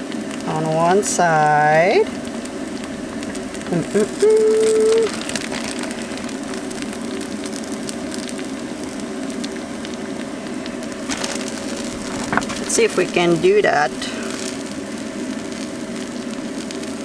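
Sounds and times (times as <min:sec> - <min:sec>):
crepe sizzling in a pan: 0:00.0 - 0:17.0.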